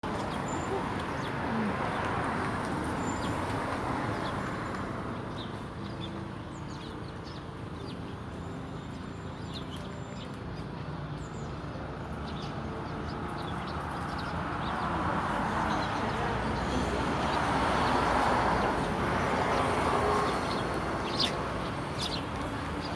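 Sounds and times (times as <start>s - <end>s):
sparrows chirping: 0.0s - 22.9s.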